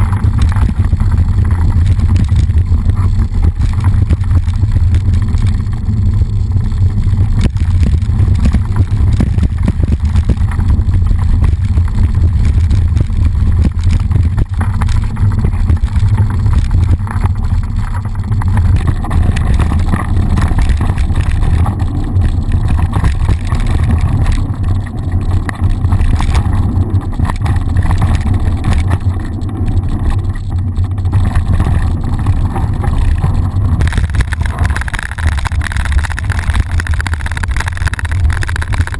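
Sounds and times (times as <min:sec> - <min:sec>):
bike knocks and rattles: 0:00.0 - 0:38.9
bike tyres rumbling on dirt: 0:00.0 - 0:38.9
wind rumble: 0:00.0 - 0:38.9.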